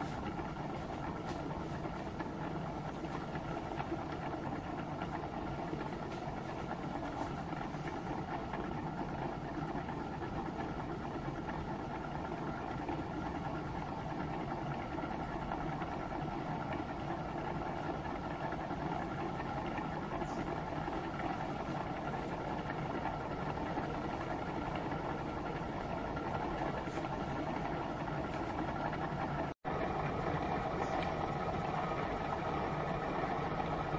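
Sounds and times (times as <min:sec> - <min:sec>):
small stirling engine running: 0:00.0 - 0:33.9.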